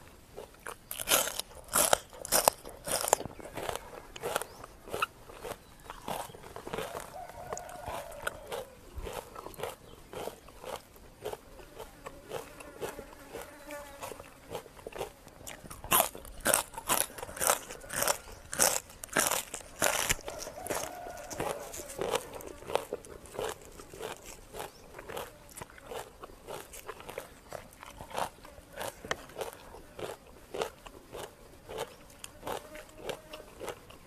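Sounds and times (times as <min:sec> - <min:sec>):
chewing and crunching: 0:00.0 - 0:34.0.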